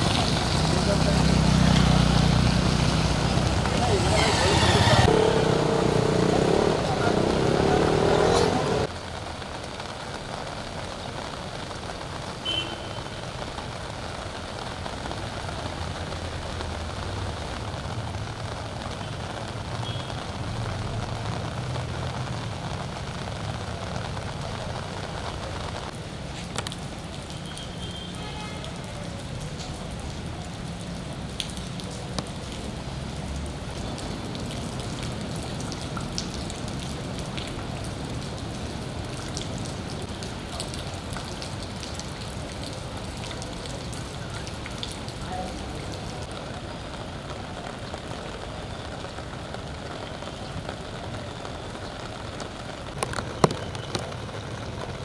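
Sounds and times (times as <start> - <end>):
rain falling on water: 0.0 - 55.0.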